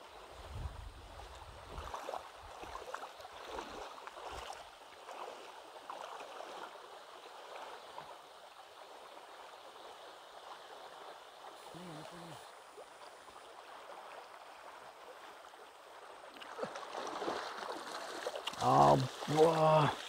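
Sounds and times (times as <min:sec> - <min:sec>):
river water rushing: 0:01.7 - 0:20.0.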